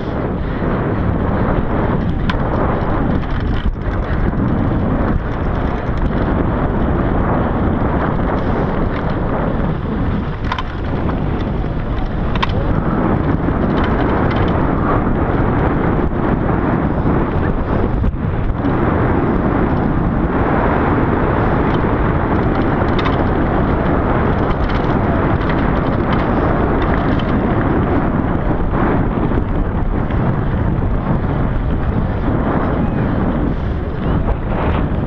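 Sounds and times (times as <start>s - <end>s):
bike clicks and rattles: 0.0s - 35.0s
bike tyres on dirt: 0.0s - 35.0s
wind roar on microphone: 0.0s - 35.0s.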